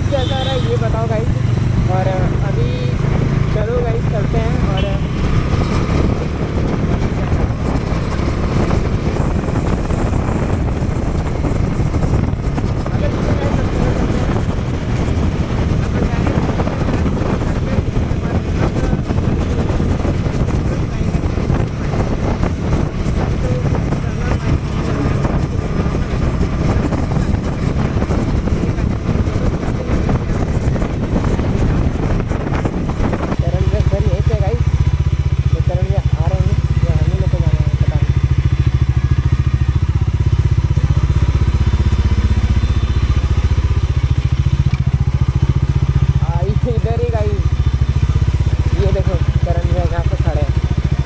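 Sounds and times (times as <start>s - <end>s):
motorcycle engine rumbling: 0.0s - 51.0s
wind buffeting microphone: 0.0s - 51.0s.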